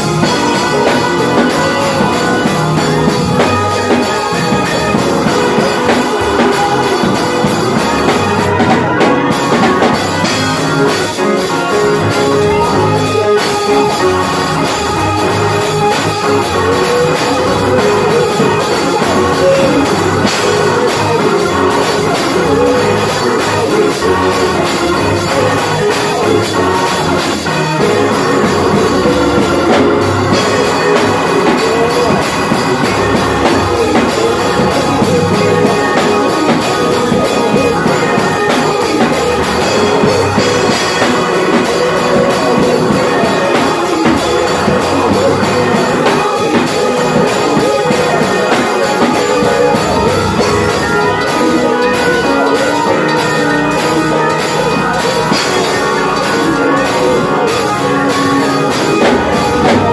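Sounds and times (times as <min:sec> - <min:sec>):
church organ playing: 0:00.0 - 0:59.9
drums: 0:00.0 - 0:59.9.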